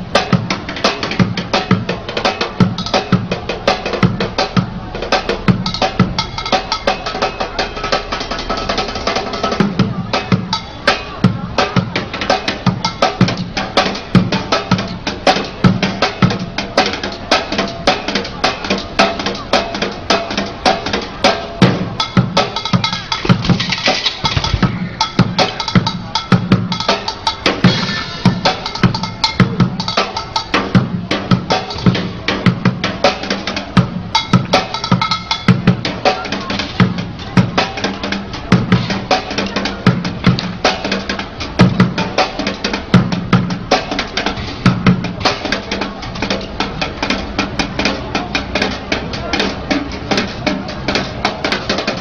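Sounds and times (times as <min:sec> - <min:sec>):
drumming on plastic buckets: 0:00.0 - 0:52.0.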